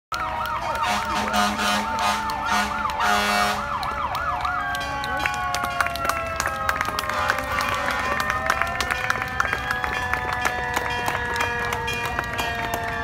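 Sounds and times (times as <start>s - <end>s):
siren yelping: 0.1s - 13.0s.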